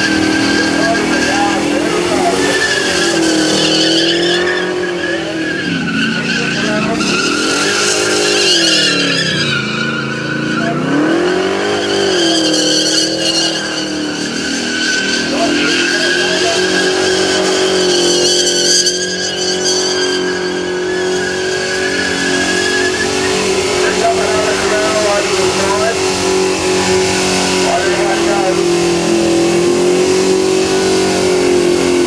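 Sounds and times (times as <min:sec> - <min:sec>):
car engine at high revs: 0:00.0 - 0:32.0
tyres squealing: 0:00.0 - 0:32.0.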